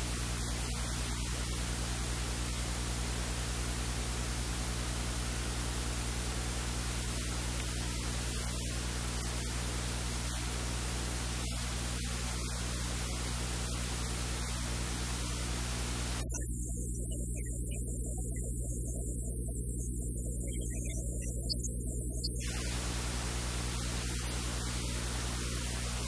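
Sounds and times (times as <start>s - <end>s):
steady hiss: 0.0s - 17.6s, 22.2s - 26.0s
low electrical hum: 0.0s - 26.0s.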